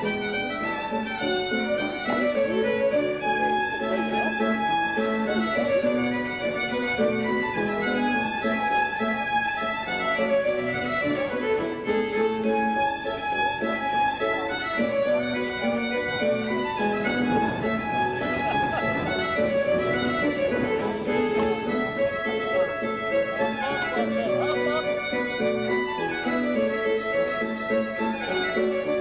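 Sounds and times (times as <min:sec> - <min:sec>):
fiddle playing fast reel: 0:00.0 - 0:29.0.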